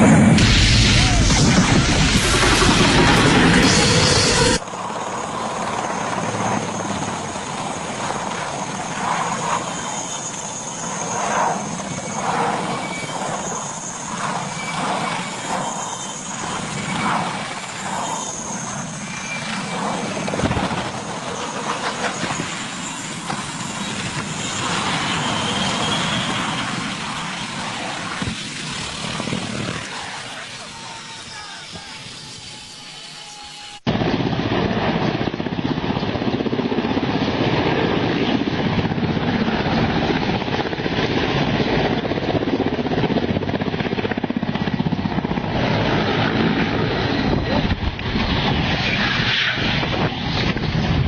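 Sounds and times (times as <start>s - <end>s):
helicopter rotor and engine: 0.0s - 51.0s
high turbine whine: 0.0s - 51.0s.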